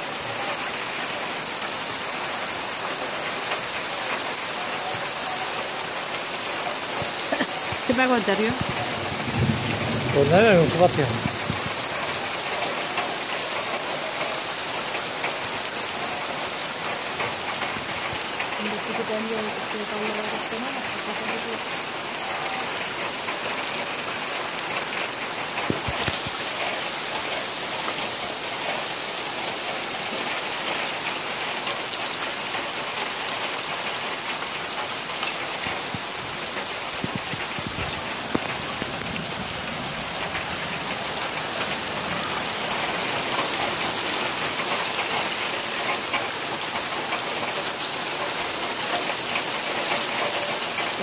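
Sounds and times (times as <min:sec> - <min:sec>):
heavy rain on gravel and grass: 0:00.0 - 0:51.0.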